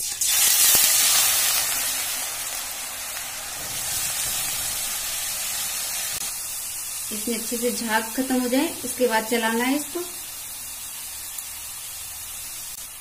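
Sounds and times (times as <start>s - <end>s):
potato frying in hot oil: 0.0s - 13.0s.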